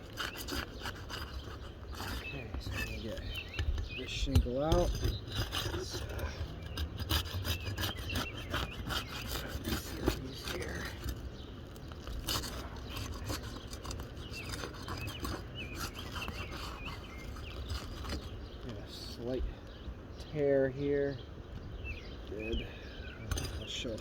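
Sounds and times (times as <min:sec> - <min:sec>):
gritty scraping of roof shingle: 0:00.0 - 0:19.2, 0:22.3 - 0:24.0.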